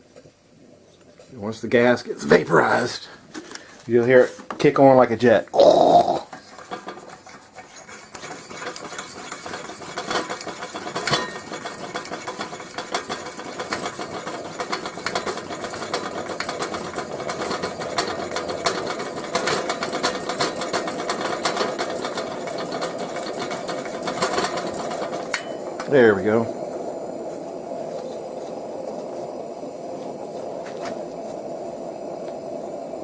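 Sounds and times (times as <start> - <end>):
lantern hissing: 0.5 - 33.0
lantern crackling and sputtering: 0.6 - 33.0.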